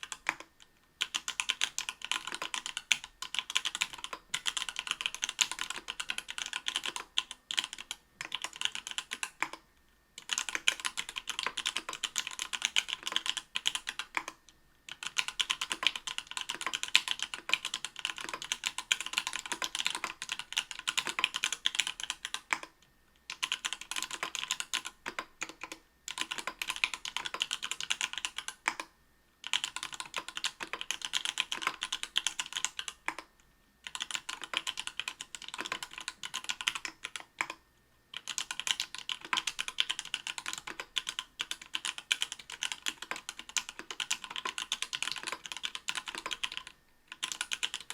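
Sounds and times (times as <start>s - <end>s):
fast typing on mechanical keyboard: 0.0s - 9.6s, 10.2s - 22.7s, 23.3s - 47.9s.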